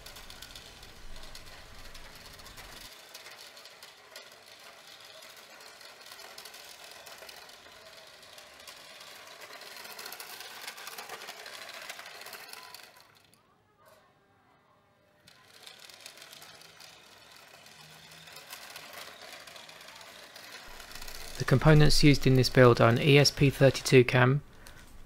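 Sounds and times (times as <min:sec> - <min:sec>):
toy car rattling: 0:00.0 - 0:14.0, 0:15.1 - 0:25.0
toy car electric motor: 0:00.0 - 0:14.1, 0:15.0 - 0:25.0.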